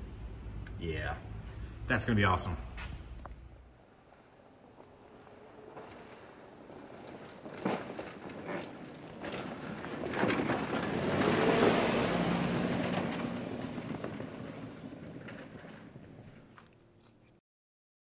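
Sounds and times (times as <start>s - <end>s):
off-road vehicle engine and tyres: 0.0s - 17.4s.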